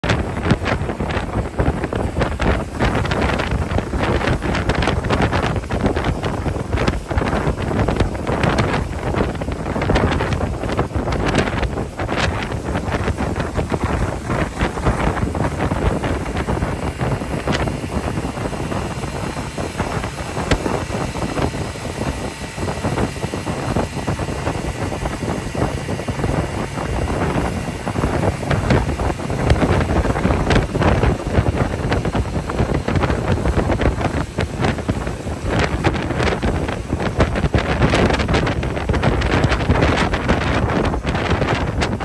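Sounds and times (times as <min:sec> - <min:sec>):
boat engine running: 0:00.0 - 0:42.0
wind buffeting microphone: 0:00.0 - 0:42.0.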